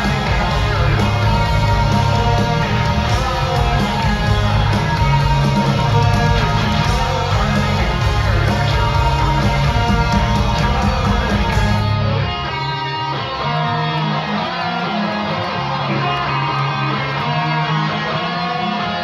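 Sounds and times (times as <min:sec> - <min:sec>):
electric guitar strumming: 0:00.0 - 0:19.0
rock band playing: 0:00.0 - 0:19.0.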